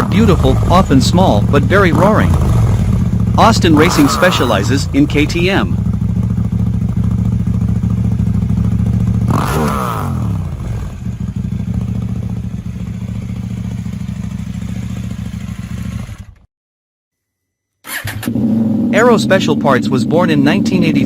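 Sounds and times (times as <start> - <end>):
motorcycle engine idling and revving: 0.0 - 16.5, 17.9 - 21.0.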